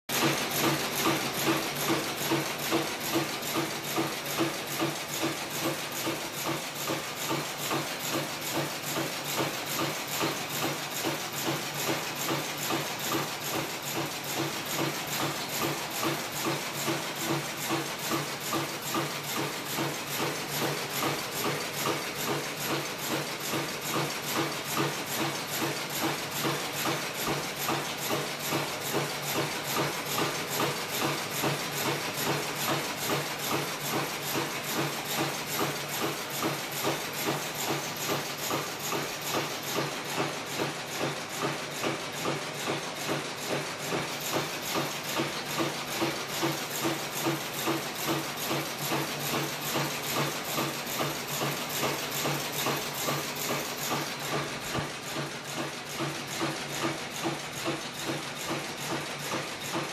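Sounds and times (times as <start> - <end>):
machine rhythmic mechanical clatter: 0.1 - 59.9.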